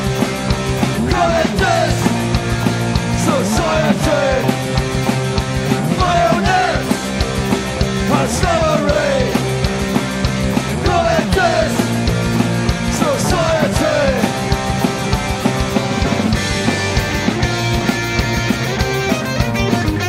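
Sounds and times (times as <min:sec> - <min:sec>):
distorted electric guitars: 0:00.0 - 0:20.0
driving drum beat: 0:00.0 - 0:20.0.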